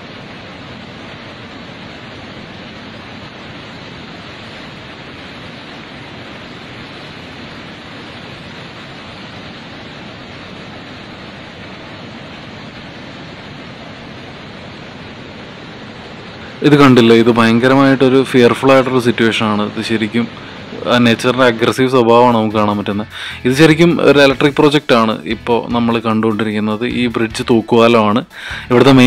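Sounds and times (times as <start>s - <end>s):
river rushing: 0.0s - 29.0s.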